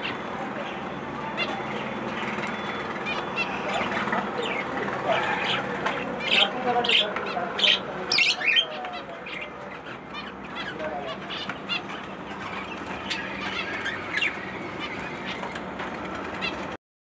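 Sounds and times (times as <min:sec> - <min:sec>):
parrots chirping and squawking: 0:00.0 - 0:16.8.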